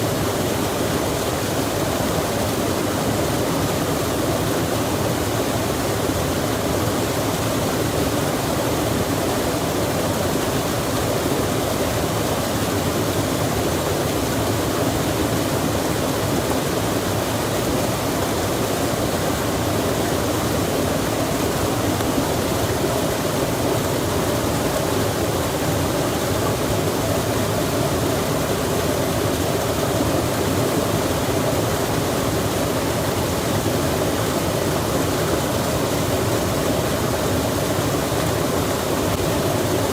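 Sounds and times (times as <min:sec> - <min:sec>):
rain falling on water: 0:00.0 - 0:39.9
stream rushing: 0:00.0 - 0:39.9.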